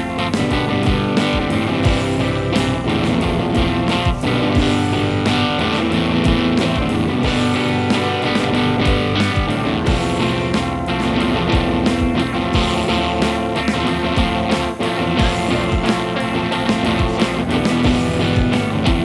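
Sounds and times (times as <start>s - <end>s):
bass guitar: 0.0s - 19.0s
drum beats: 0.0s - 19.0s
electric guitars: 0.0s - 19.0s.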